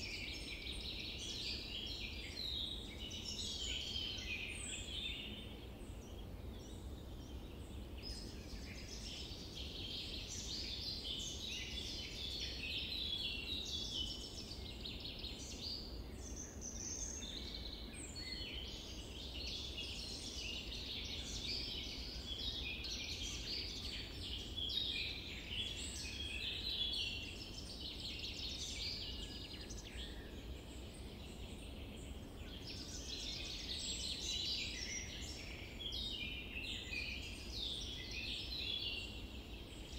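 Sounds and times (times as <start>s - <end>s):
many birds chirping and singing: 0.0s - 39.9s.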